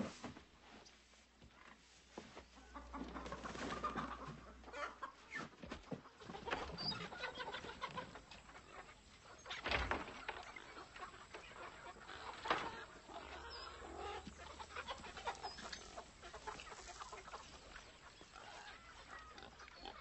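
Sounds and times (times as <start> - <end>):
chickens clucking and squawking: 0.7 - 20.0.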